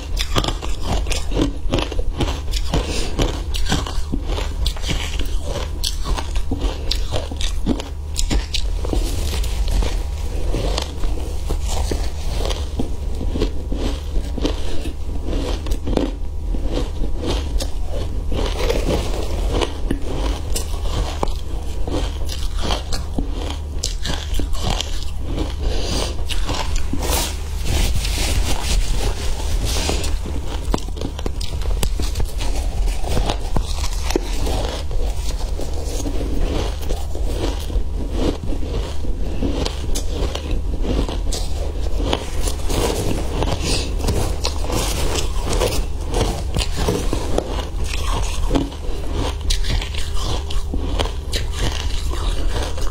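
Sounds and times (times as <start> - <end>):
crunching and chewing ice: 0.0 - 52.9.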